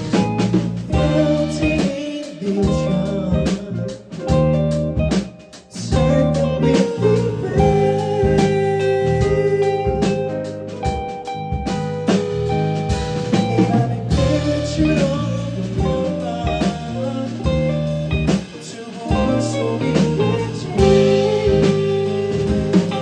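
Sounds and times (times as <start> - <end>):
bass: 0.0 - 23.0
drum kit: 0.0 - 23.0
electric guitar: 0.0 - 23.0.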